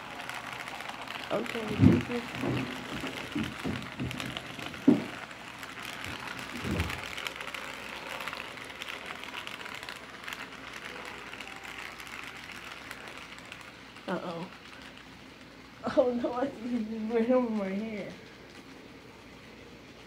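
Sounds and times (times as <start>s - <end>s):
model train wheels rattling on rails: 0.0s - 20.0s.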